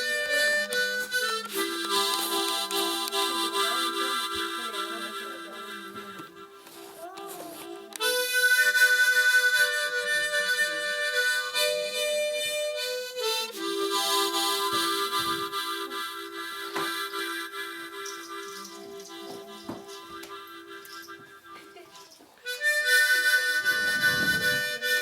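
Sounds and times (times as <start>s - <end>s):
harmonica playing chords: 0.0s - 25.0s.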